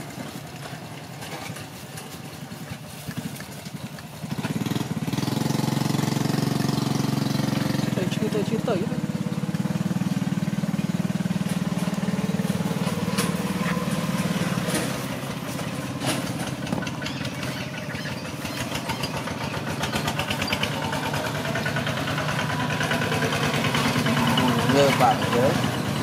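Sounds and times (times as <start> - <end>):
small engine idling: 0.0 - 26.0.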